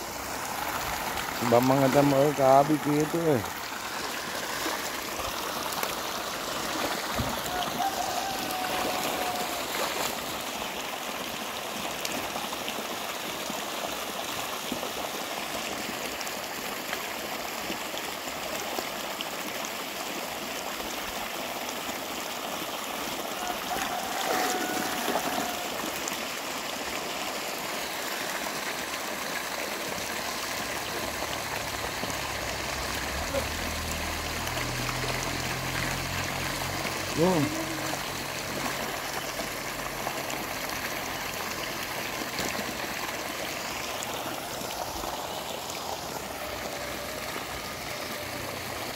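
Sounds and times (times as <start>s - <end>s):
water jet splashing into pond: 0.0s - 48.9s.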